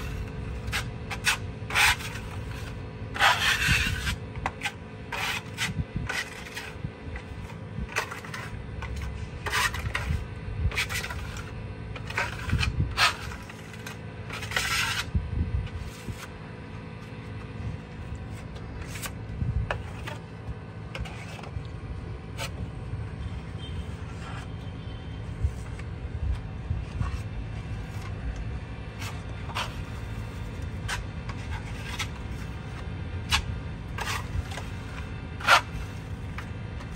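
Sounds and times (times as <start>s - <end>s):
trowel scraping rough wall: 0.0s - 24.7s, 26.8s - 36.9s
low hum: 0.0s - 36.9s.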